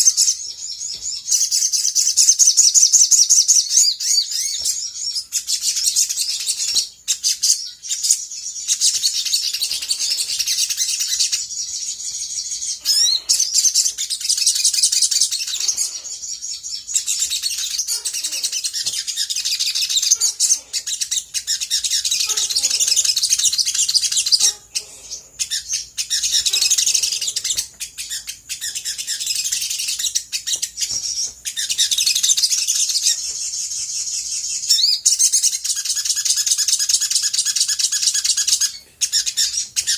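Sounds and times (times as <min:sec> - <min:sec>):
sunbird chirps and trills: 0:00.0 - 0:39.9.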